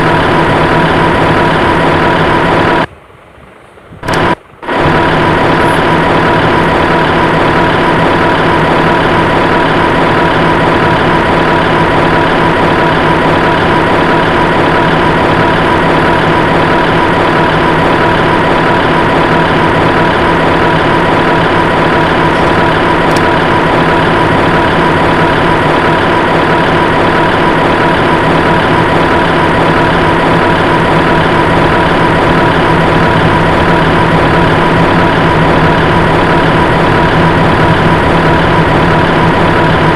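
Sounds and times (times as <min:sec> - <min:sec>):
heavy engine idling: 0:00.0 - 0:39.9.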